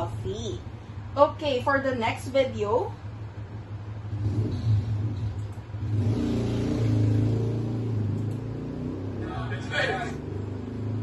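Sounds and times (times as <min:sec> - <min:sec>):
low steady rumble with hum: 0:00.0 - 0:11.0.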